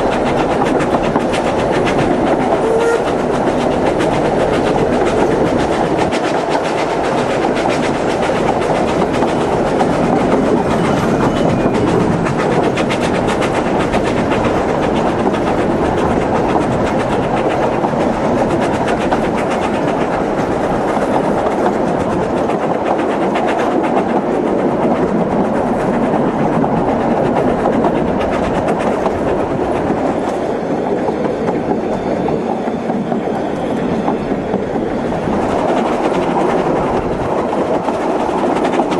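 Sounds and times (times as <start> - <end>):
train wheels clicking on rails: 0.0 - 38.9.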